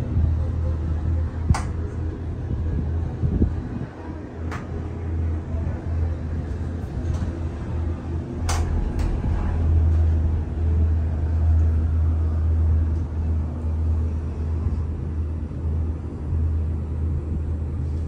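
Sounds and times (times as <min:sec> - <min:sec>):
gondola cabin low rumble: 0:00.0 - 0:18.0.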